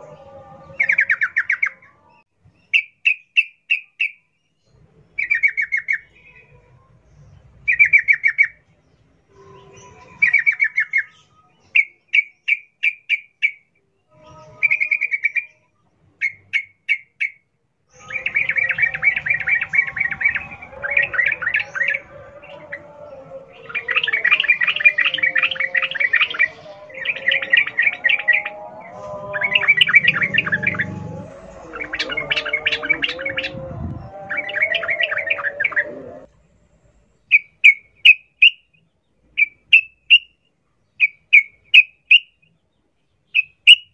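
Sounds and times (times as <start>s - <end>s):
wavering birdsong: 0.0s - 43.9s.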